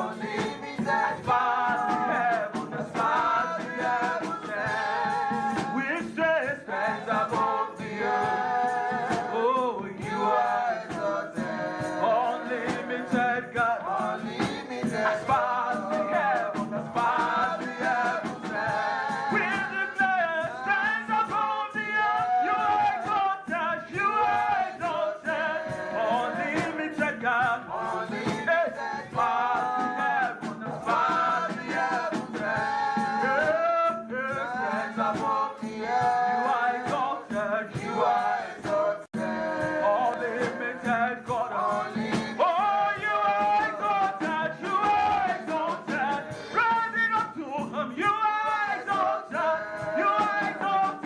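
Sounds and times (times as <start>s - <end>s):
instrumental accompaniment with percussion: 0.0s - 51.0s
voices singing praise song: 0.0s - 51.0s.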